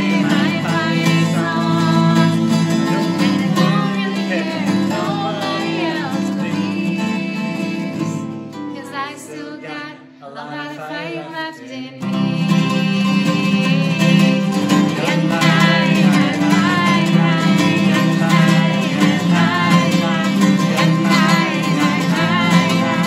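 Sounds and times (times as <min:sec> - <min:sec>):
acoustic guitar strumming: 0:00.0 - 0:10.2, 0:12.0 - 0:23.0
woman singing: 0:00.0 - 0:23.0.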